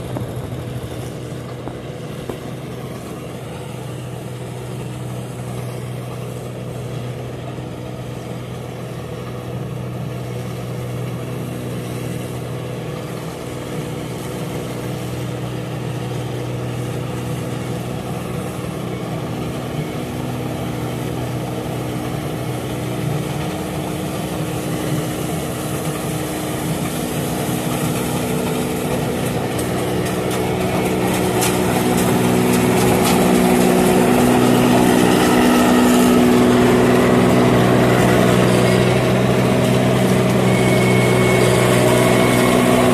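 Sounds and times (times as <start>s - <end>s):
combine harvester running: 0.0s - 42.9s
machinery rattle and hiss: 0.0s - 42.9s.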